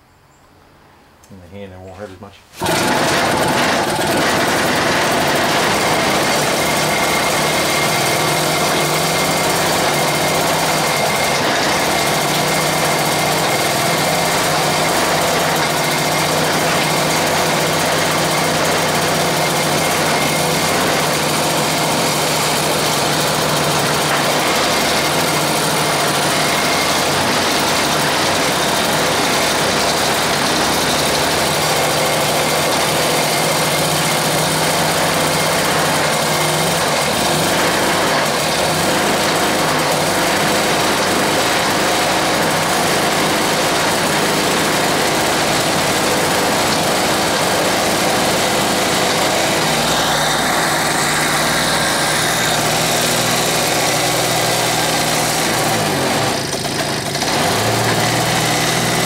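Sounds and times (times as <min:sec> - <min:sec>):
small engine running: 0:02.6 - 0:59.0.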